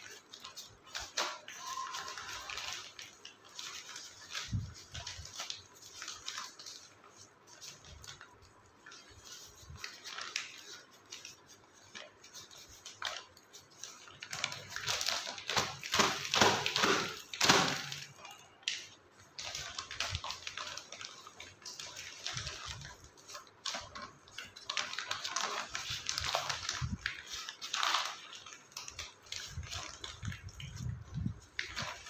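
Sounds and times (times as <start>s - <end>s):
plastic bag crinkling: 0.0s - 32.0s.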